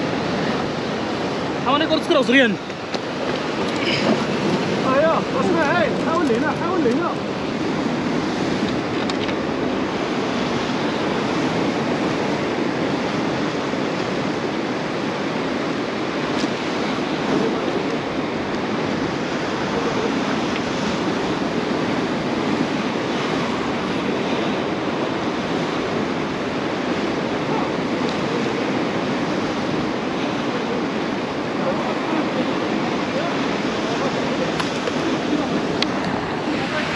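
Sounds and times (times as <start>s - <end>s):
ocean surf washing on shore: 0.0s - 36.9s.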